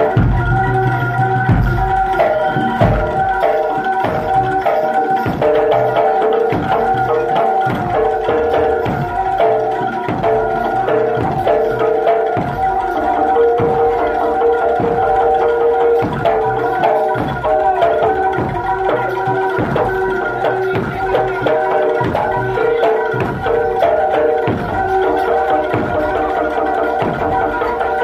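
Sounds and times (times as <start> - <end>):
hand-drum strokes: 0.0 - 28.0
metallophone notes: 0.0 - 28.0.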